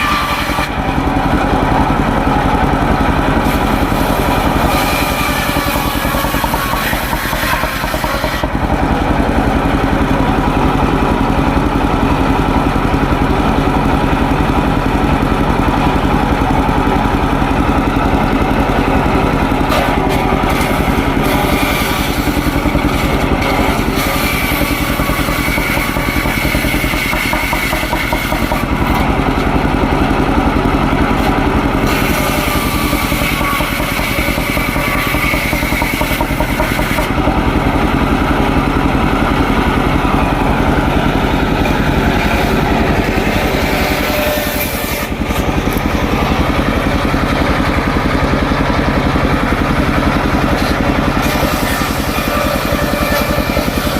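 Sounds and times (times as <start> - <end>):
circular saw cutting wood: 0.0 - 53.9
small engine running: 0.0 - 53.9.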